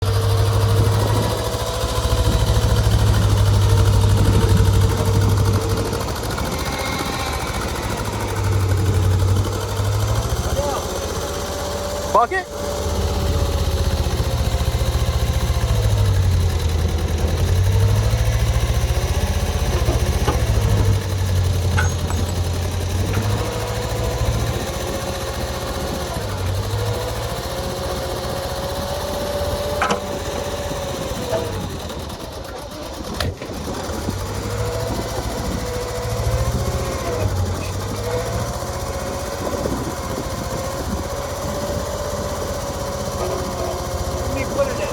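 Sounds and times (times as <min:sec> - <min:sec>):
skid loader engine idling: 0:00.0 - 0:44.9.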